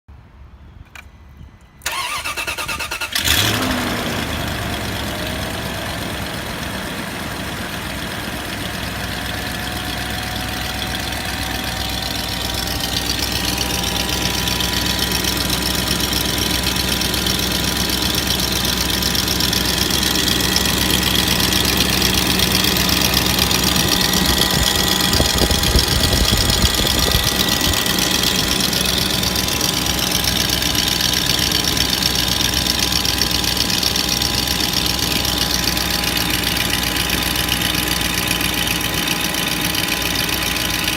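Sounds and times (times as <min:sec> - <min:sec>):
starter motor cranking: 0:01.9 - 0:04.7, 0:09.0 - 0:40.9
car engine idling roughly: 0:03.2 - 0:40.9.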